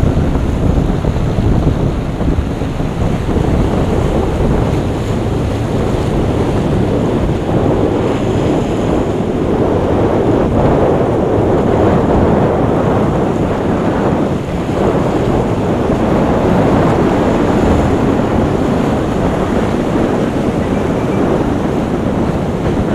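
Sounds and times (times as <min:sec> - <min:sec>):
waves and surf: 0:00.0 - 0:22.9
wind buffeting microphone: 0:00.0 - 0:22.9.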